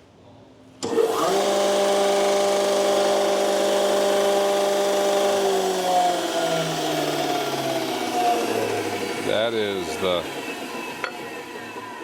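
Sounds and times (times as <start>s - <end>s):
grinder motor hum and whine: 0.8s - 12.0s.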